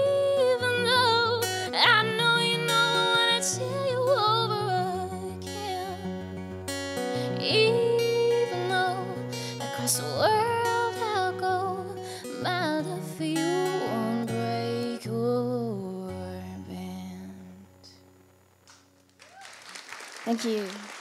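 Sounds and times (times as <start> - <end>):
woman singing: 0.0 - 6.1, 7.2 - 18.0
acoustic guitar: 0.0 - 19.2.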